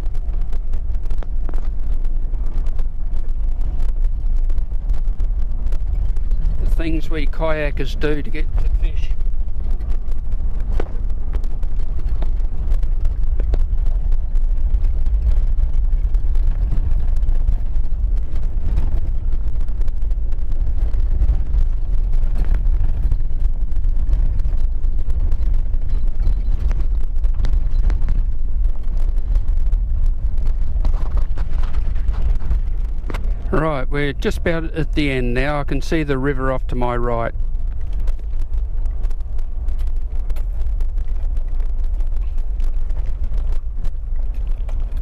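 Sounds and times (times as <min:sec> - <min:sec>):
engine and tyres rumbling: 0:00.0 - 0:45.0.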